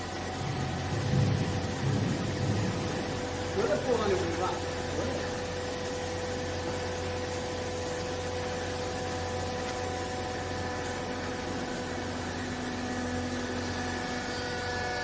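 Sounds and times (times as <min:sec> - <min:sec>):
motor and pump humming: 0:00.0 - 0:15.0.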